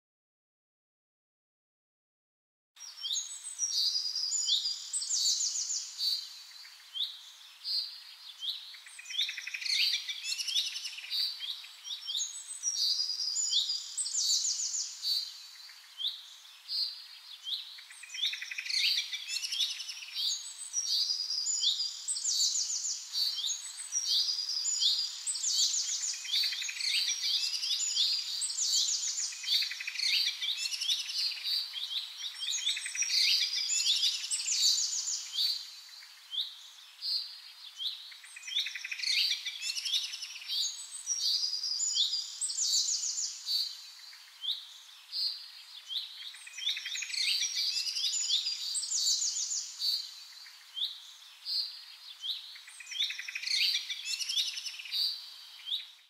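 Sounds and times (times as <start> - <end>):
songbirds singing: 2.8 - 56.0.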